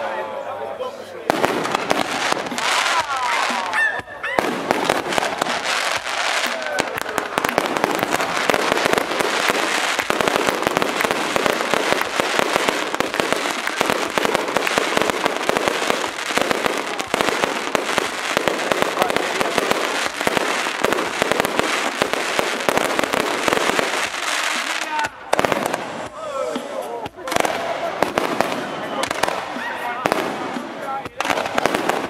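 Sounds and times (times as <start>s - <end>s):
fireworks bangs and crackles: 1.2s - 32.0s.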